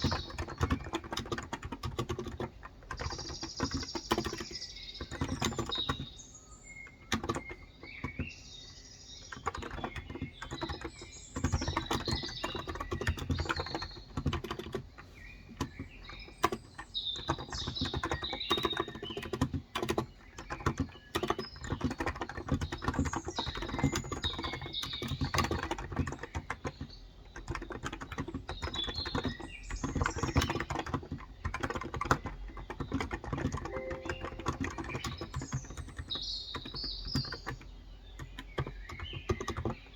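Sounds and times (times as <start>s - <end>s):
typing on keyboard: 0.0s - 8.4s, 9.2s - 39.9s
birds chirping: 0.0s - 39.9s.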